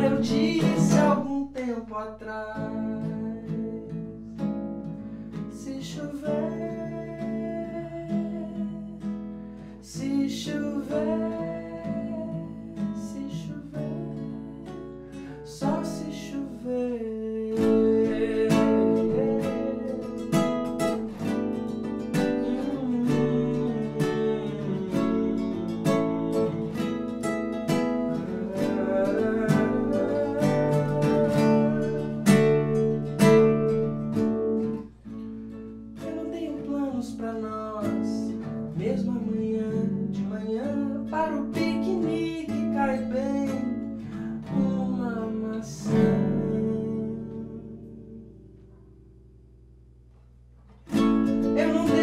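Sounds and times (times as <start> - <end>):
fingerpicked classical guitar: 0.0 - 52.0.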